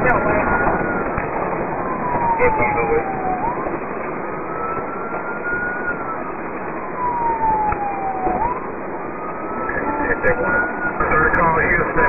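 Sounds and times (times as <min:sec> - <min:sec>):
police siren wailing: 0:00.0 - 0:12.0
road and engine noise: 0:00.0 - 0:12.0.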